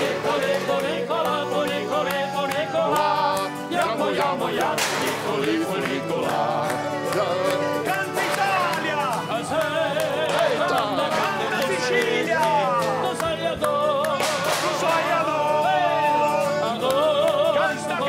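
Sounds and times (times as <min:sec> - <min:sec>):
accordion: 0:00.0 - 0:18.0
acoustic guitar: 0:00.0 - 0:18.0
person singing: 0:00.0 - 0:18.0.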